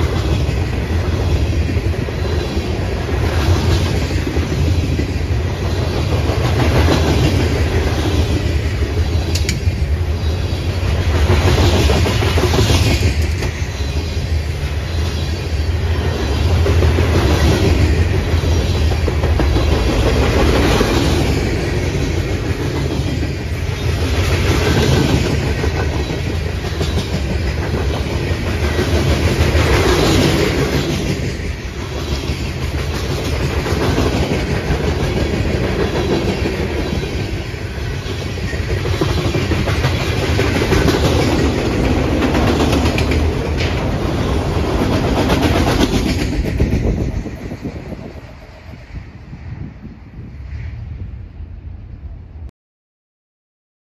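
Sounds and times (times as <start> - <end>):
clickety-clack over rail joints: 0.0 - 49.0
train wheels rumbling on rail: 0.0 - 52.5.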